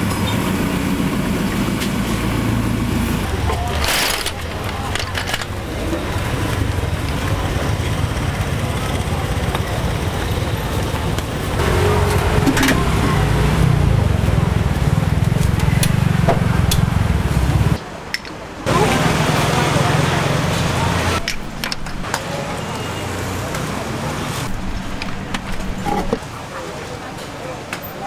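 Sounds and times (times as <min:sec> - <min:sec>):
low street rumble: 0:00.0 - 0:28.0
faint voices: 0:03.2 - 0:16.6, 0:17.8 - 0:28.0.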